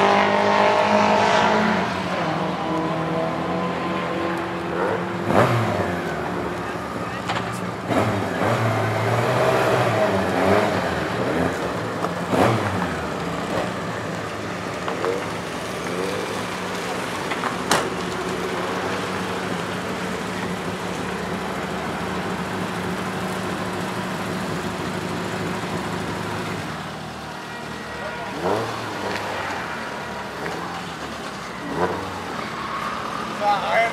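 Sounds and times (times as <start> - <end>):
car engine idling: 4.3 - 33.9.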